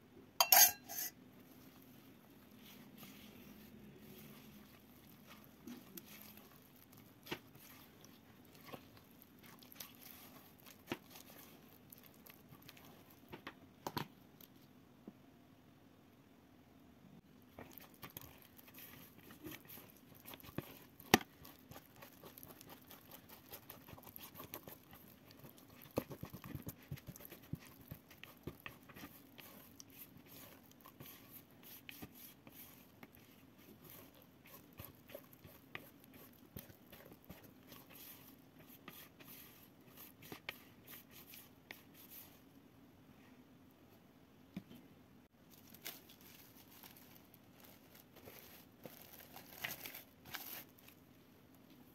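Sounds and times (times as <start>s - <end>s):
spatula squelching dough: 0.4s - 14.6s, 17.3s - 42.5s, 45.5s - 51.0s.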